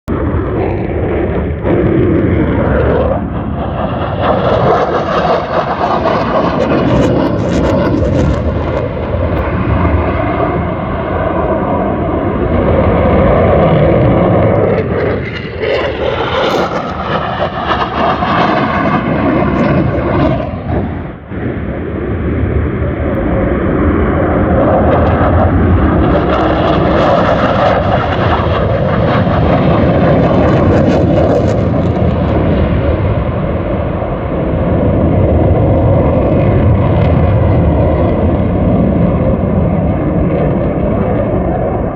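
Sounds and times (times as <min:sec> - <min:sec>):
military aircraft flying past low: 0:00.1 - 0:41.9.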